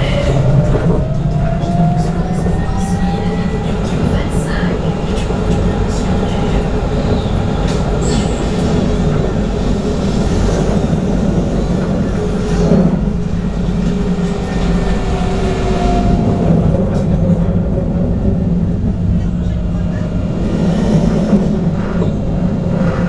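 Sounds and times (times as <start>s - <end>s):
tram rumbling on rails: 0.0s - 23.0s.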